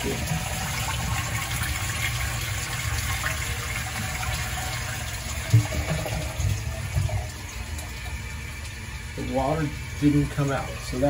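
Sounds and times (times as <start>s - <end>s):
toilet flushing: 0.0s - 11.0s.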